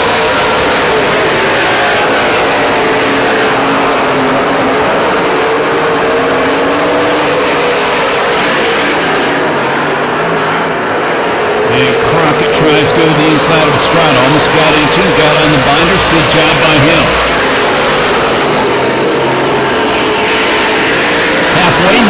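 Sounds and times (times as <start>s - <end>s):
race car engines droning: 0.0s - 22.0s.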